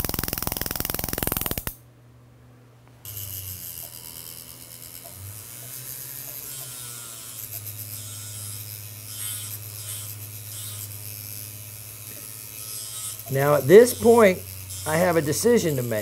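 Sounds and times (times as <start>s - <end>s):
rotary handpiece motor humming: 0.0s - 1.8s, 3.0s - 16.0s.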